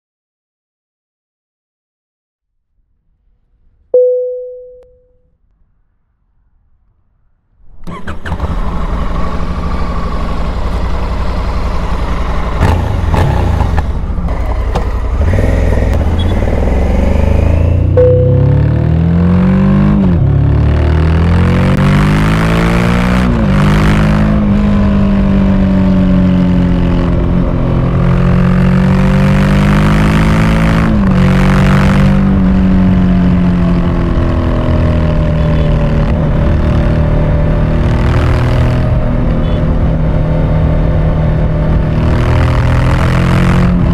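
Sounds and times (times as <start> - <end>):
motorcycle engine accelerating: 7.8 - 43.9.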